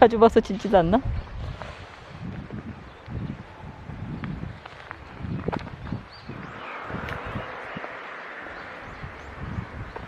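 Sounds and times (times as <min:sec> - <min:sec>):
faint outdoor rustling: 0:00.0 - 0:10.0
wind buffeting microphone: 0:00.0 - 0:10.0.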